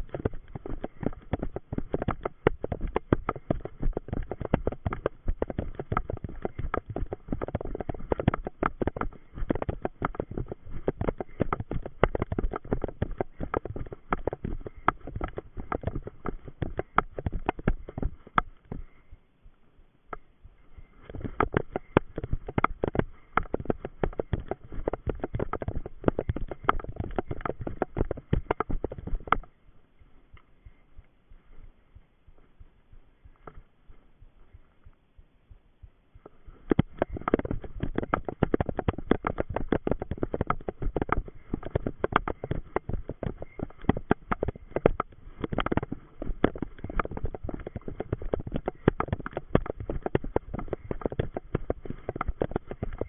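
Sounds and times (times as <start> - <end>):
running footsteps: 0.0 - 19.2, 20.1 - 53.0.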